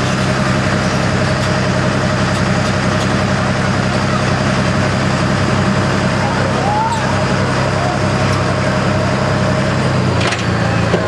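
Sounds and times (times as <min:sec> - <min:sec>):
truck engine idling loudly: 0:00.0 - 0:11.0.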